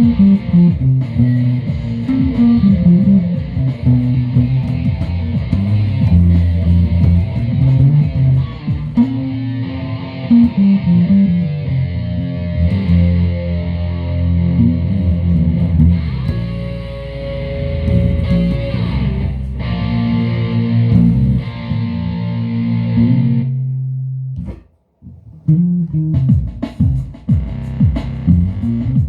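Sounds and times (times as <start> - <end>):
guitar chords ringing: 0.0 - 26.3
plucked guitar notes: 0.0 - 26.4.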